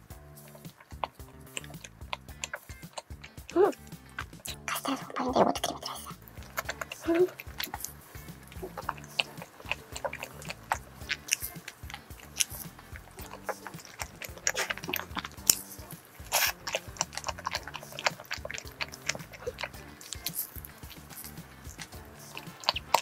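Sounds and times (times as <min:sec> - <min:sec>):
crisp crust crackles: 0:00.4 - 0:23.0
soft chewing mouth sounds: 0:00.4 - 0:23.0.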